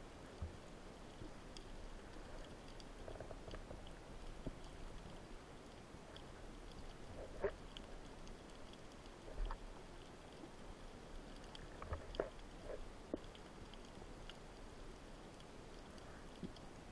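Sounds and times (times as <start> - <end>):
low underwater hiss: 0.0 - 16.9
small clicks and crackles: 0.0 - 16.9.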